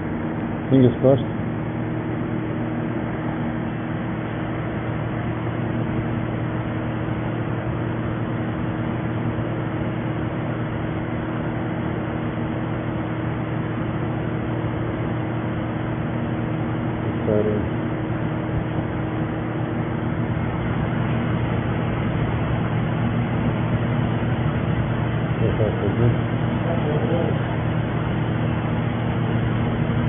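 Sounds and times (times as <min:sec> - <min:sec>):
furnace humming and rushing: 0:00.0 - 0:30.0.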